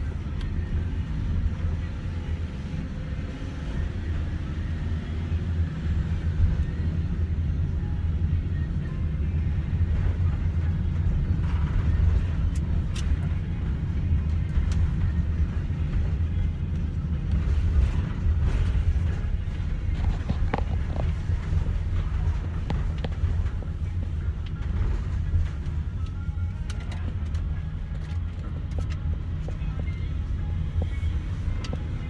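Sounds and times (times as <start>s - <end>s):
van engine and road rumble: 0.0s - 32.0s.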